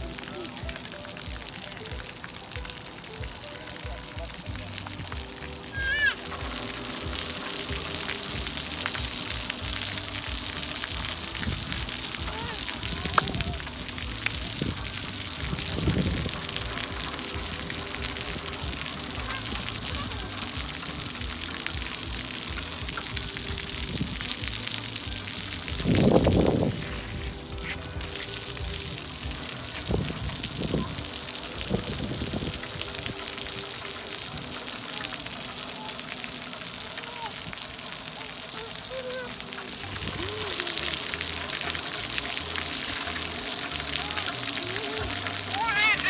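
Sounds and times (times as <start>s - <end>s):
spray jets hissing: 0.0s - 46.0s.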